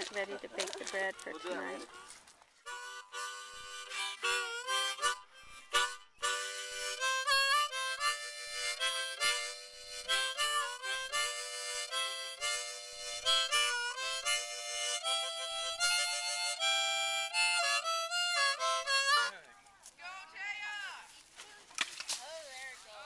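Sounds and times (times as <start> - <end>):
harmonica playing chords: 0.9 - 19.4.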